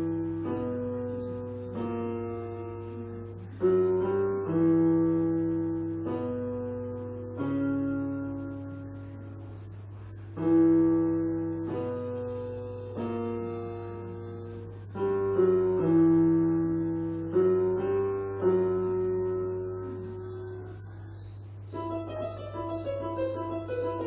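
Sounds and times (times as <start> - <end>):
piano playing slow chords: 0.0 - 24.0
steady low hum: 0.0 - 24.0.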